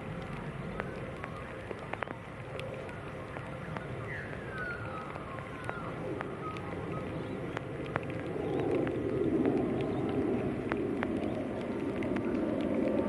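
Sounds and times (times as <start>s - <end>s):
raindrops ticking nearby: 0.0s - 13.0s
steady rain: 0.0s - 13.0s.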